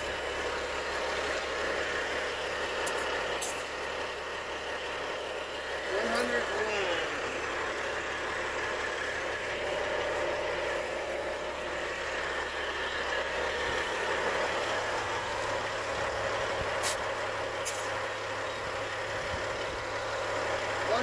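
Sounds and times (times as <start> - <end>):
machine running steadily: 0.0 - 21.0.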